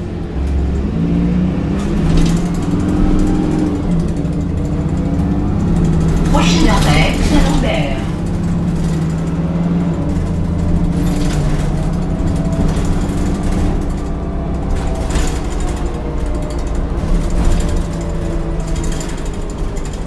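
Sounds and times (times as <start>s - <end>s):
bus engine drone and whine: 0.0s - 20.0s.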